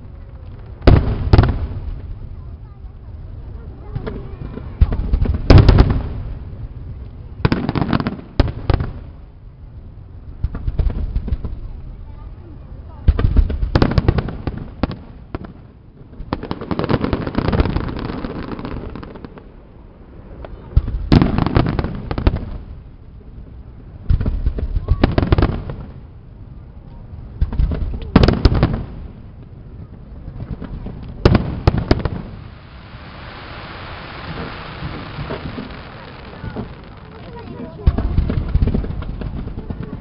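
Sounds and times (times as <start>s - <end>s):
firework bangs: 0.0s - 22.9s, 23.8s - 40.0s
firework crackling: 0.0s - 40.0s.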